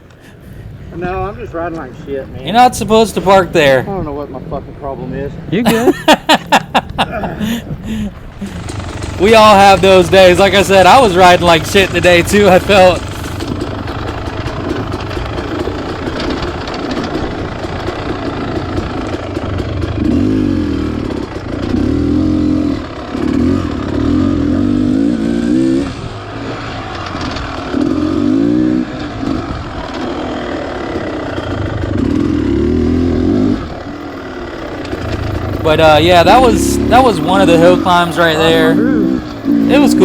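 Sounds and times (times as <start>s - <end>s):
dirt bike engine revving: 5.7s - 40.0s.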